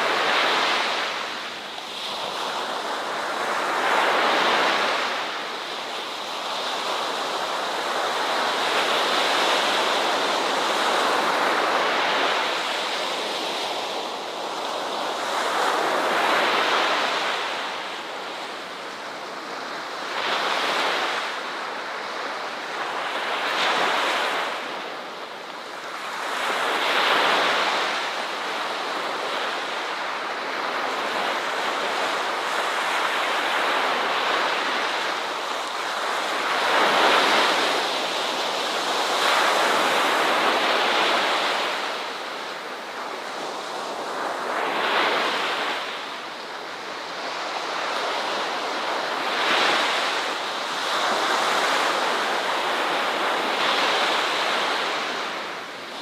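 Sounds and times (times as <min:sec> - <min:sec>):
waves breaking on a shore: 0:00.0 - 0:56.0.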